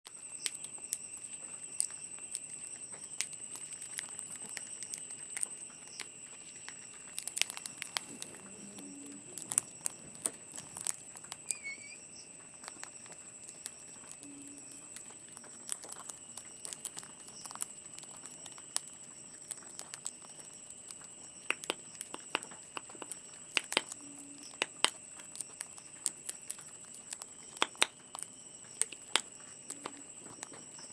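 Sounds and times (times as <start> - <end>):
parrot cracking seeds: 0.2 - 30.9.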